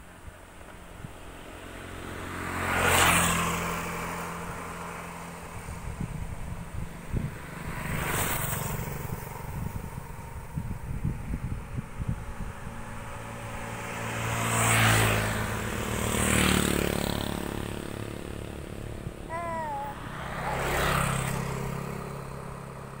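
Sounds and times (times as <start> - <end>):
motorcycles passing: 0.1 - 23.0.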